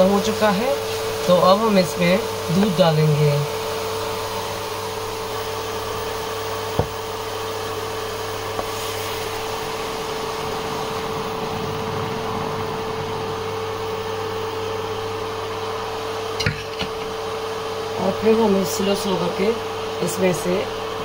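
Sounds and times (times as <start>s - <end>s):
cooling fan whirring hum: 0.0s - 21.0s.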